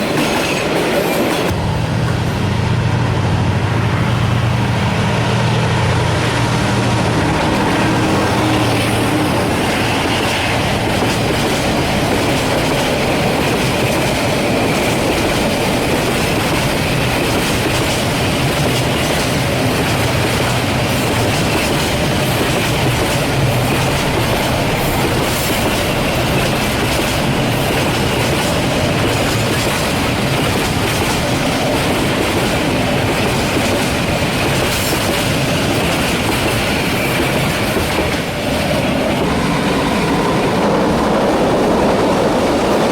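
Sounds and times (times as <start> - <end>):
freight train wagons rolling: 0.0 - 42.9
wheels clacking over rail joints: 0.0 - 42.9.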